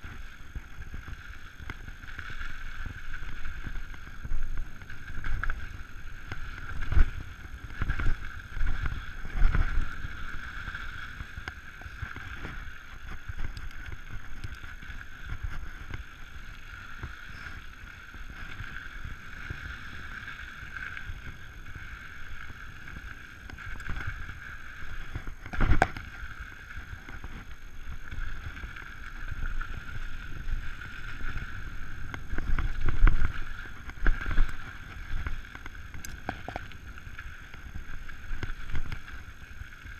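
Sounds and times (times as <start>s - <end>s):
bike rattling over rough ground: 0.0s - 39.9s
bike tyres rushing on dirt: 0.0s - 39.9s
wind: 0.0s - 39.9s.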